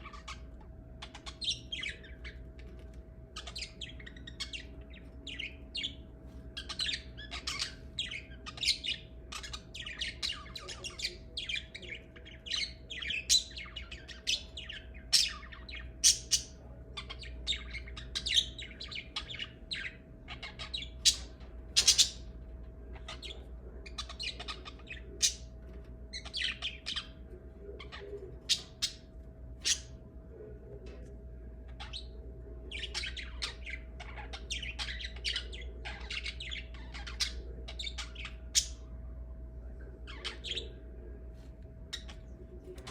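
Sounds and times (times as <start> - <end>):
lovebirds chirping and squawking: 0.0 - 39.1, 39.8 - 42.9
faint steady hum: 0.0 - 42.9.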